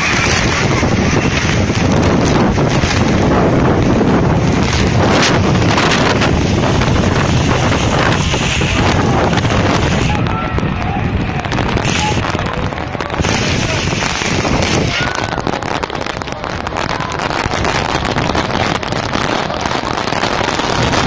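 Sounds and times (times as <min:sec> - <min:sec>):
heavy rain pouring: 0:00.0 - 0:21.0
wind buffeting microphone: 0:00.0 - 0:21.0.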